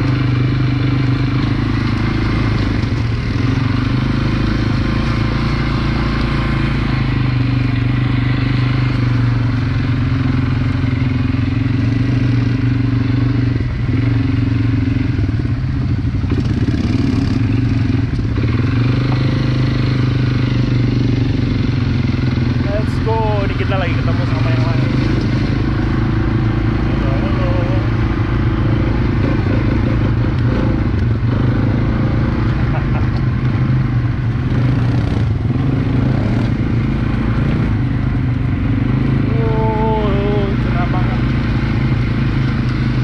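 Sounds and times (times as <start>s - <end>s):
atv engine droning: 0.0s - 43.0s.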